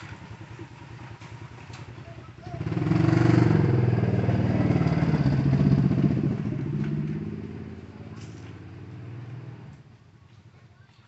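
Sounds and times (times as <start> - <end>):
motorcycle engine passing by: 0.0 - 9.8.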